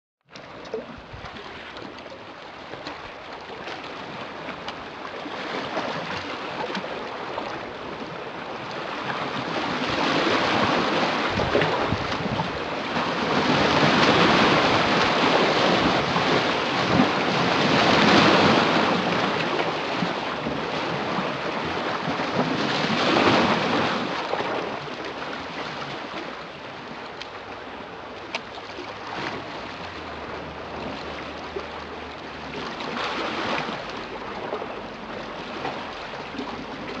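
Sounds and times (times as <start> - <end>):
sea waves breaking on shore: 0.3 - 37.0.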